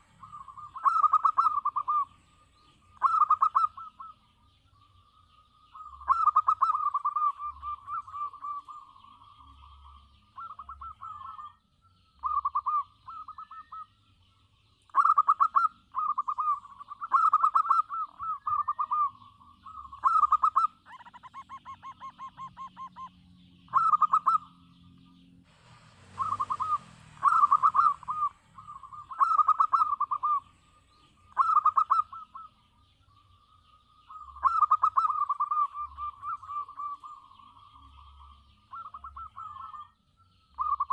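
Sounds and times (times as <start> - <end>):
dove cooing: 0.0 - 4.3, 5.7 - 11.6, 12.2 - 14.0, 14.9 - 25.0, 25.6 - 32.6, 34.1 - 40.0, 40.6 - 40.9.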